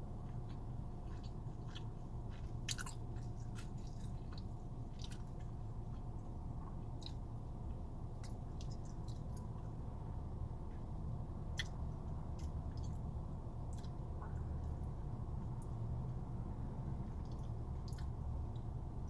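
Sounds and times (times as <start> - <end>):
person chewing food: 0.2 - 9.8, 11.5 - 16.0, 17.1 - 18.8.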